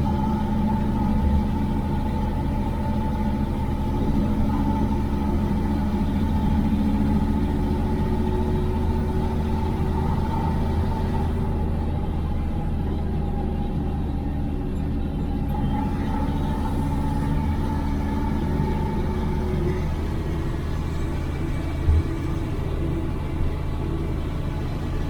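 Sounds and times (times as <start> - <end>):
drivetrain whine: 0.0 - 25.0
truck diesel engine running: 0.0 - 25.0.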